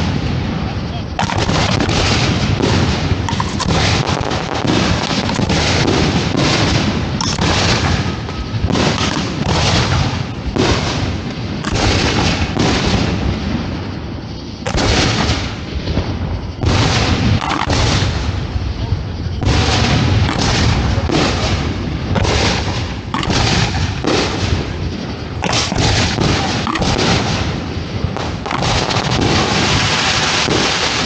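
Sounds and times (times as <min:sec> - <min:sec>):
deep rumble: 0:00.0 - 0:29.9
fireworks booms and bangs: 0:00.0 - 0:31.0.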